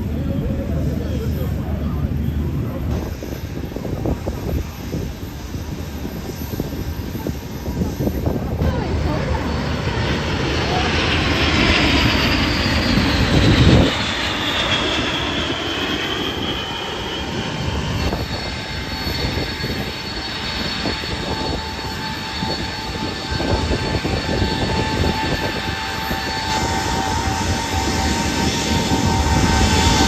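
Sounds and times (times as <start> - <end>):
jet aircraft passing by: 0.0 - 30.0.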